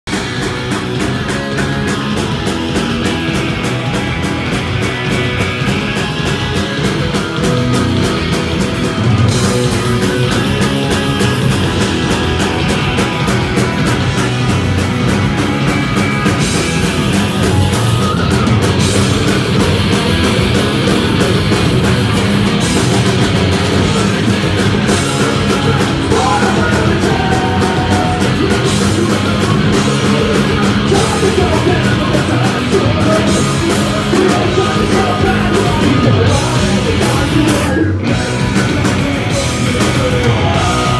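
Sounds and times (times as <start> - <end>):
punk rock band playing live: 0.0 - 40.9.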